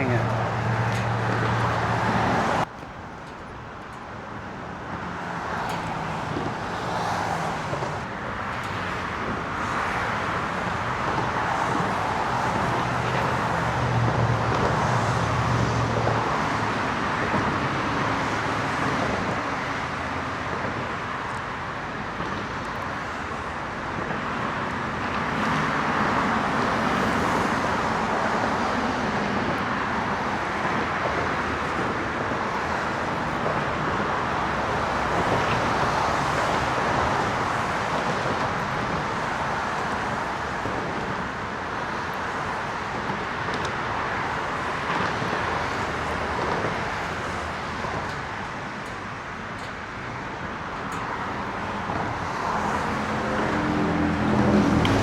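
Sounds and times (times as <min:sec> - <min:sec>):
road traffic rushing: 0:00.0 - 0:55.0.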